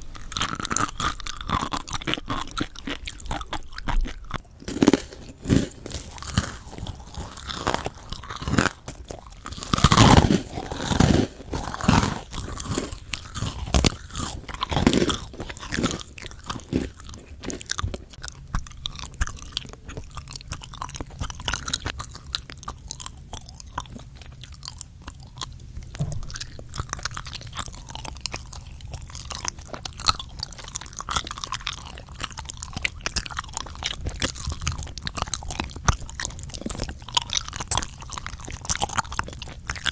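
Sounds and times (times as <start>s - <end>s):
crunchy chewing of food: 0.0s - 39.9s.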